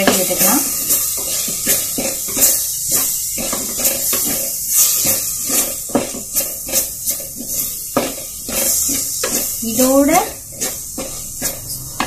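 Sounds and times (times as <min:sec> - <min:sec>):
masala sizzling in a clay pot: 0:00.0 - 0:12.0
spatula stirring and scraping: 0:00.0 - 0:12.0.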